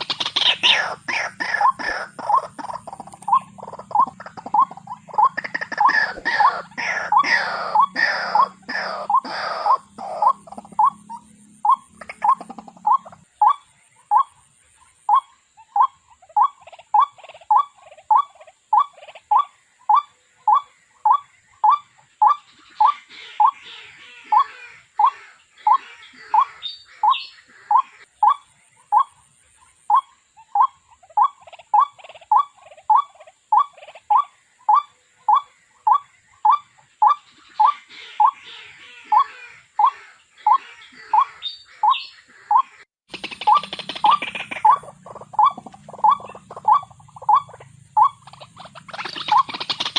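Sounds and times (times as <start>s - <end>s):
faint bird chirps: 0.0s - 49.9s
waterhen calling: 0.0s - 49.9s.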